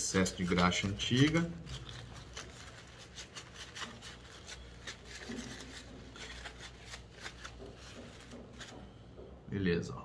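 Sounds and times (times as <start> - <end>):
paper towel rustling and rubbing: 0.0 - 8.9.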